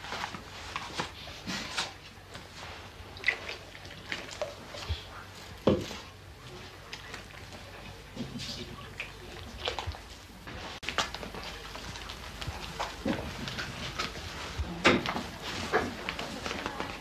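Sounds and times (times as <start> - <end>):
hands kneading dough: 0.0 - 17.0
soft pats and squishes: 0.0 - 17.0.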